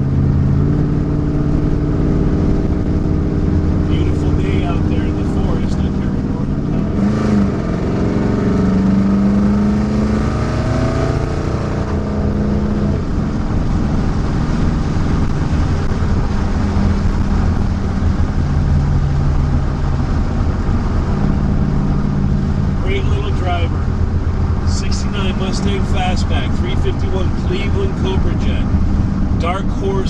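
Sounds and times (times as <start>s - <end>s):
car engine revving from inside cabin: 0.0s - 29.8s.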